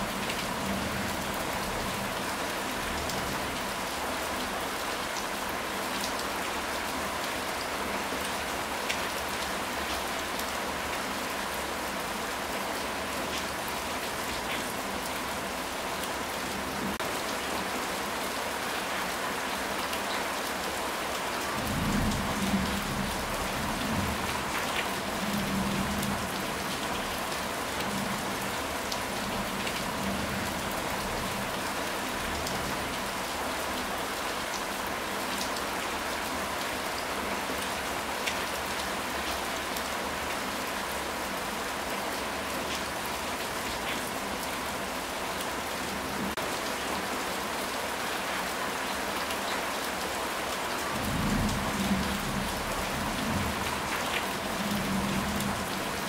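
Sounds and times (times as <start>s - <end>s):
rain on a tiled roof: 0.0s - 56.0s.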